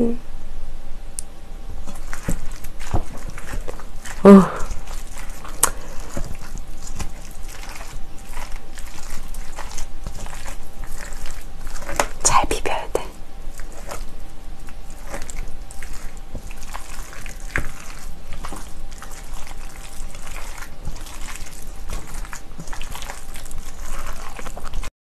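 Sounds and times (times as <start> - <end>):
wet squishing of rice: 1.7 - 12.3, 13.1 - 24.9.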